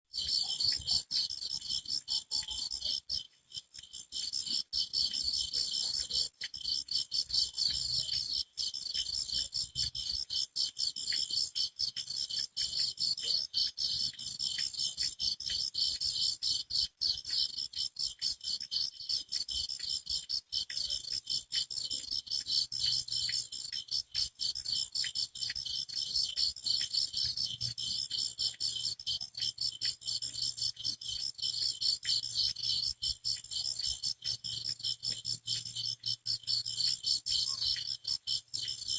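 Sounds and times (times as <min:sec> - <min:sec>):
crickets chirping: 0:00.1 - 0:38.9.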